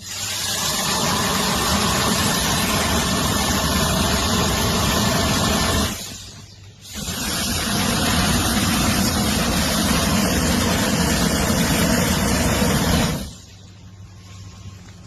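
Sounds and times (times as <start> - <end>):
motor running loudly: 0.0 - 13.4.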